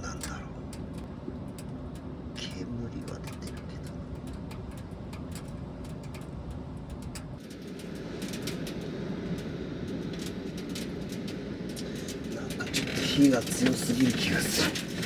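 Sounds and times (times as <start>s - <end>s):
rain pattering on a van roof: 0.0s - 15.0s.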